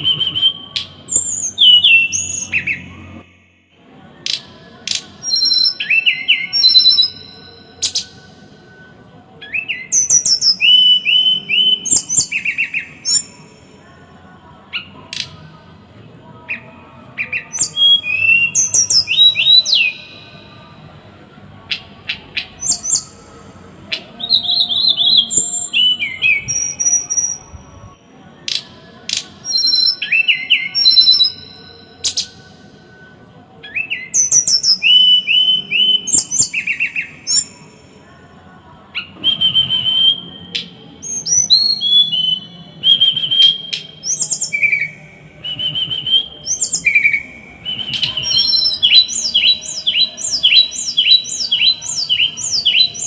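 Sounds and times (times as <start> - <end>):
songbird harsh chirps and trills: 0.0 - 8.6, 9.4 - 20.9, 21.6 - 32.6, 33.6 - 38.0, 38.8 - 53.0.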